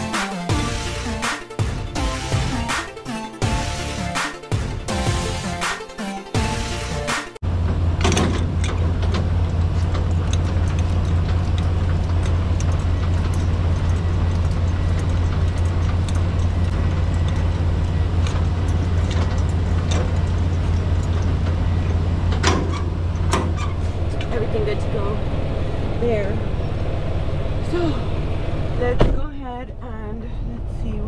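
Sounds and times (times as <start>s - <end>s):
crank gears clicking and rattling: 0.0s - 28.8s
diesel engine hum: 0.0s - 31.0s.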